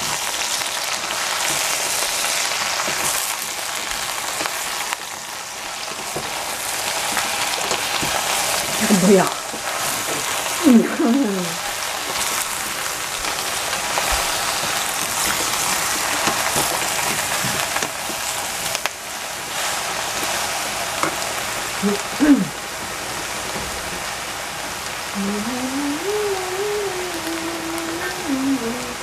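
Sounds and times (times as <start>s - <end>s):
eggplant sizzling in saucepan: 0.0s - 29.0s.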